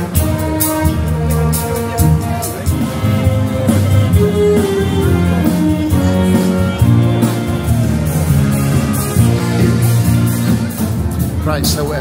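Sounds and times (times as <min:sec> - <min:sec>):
big band playing: 0:00.0 - 0:12.0.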